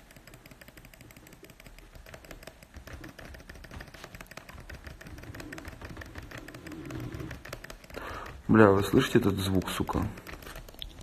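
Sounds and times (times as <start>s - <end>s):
keyboard keys clicking: 0.0s - 11.0s.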